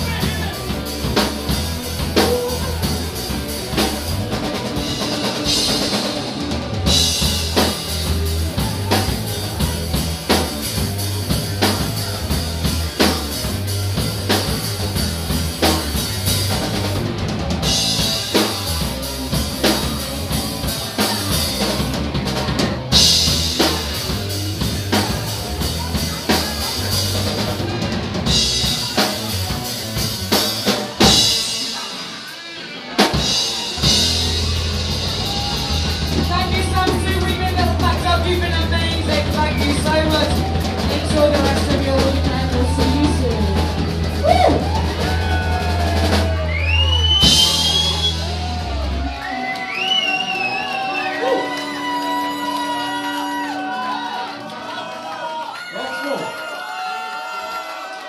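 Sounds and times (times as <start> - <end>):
live rock band playing: 0.0 - 54.7.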